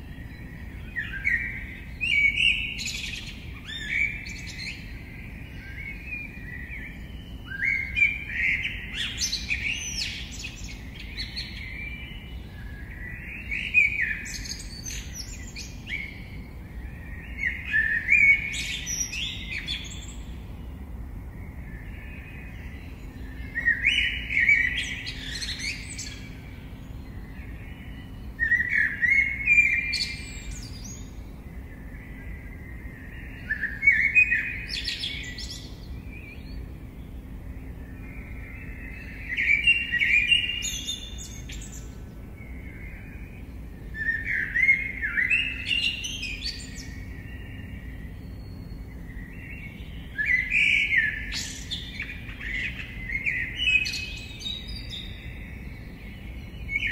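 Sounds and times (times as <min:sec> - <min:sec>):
faint outdoor background: 0:00.0 - 0:56.9
songbird chirping and trilling: 0:00.0 - 0:56.9.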